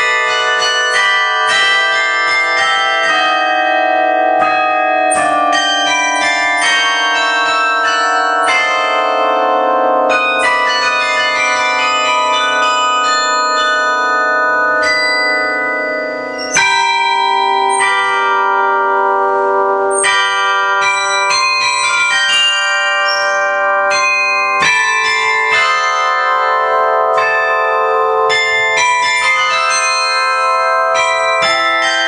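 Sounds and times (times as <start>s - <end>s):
carillon bells playing melody: 0.0s - 32.0s.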